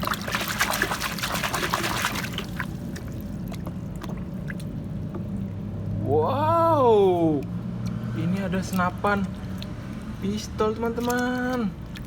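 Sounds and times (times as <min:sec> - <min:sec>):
water drips: 0:00.0 - 0:05.9, 0:07.3 - 0:12.0
water splashing and trickling: 0:00.0 - 0:12.0.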